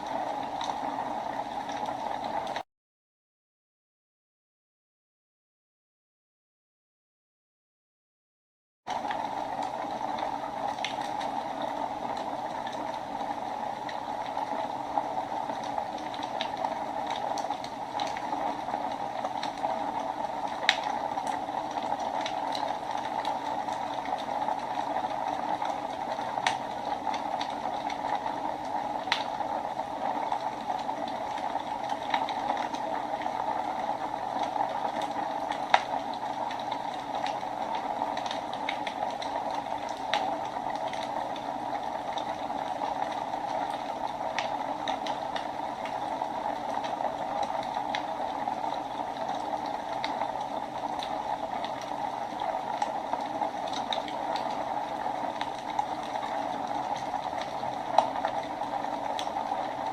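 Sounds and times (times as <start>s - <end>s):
fire crackling in a fireplace: 0.0s - 2.6s, 8.9s - 59.9s.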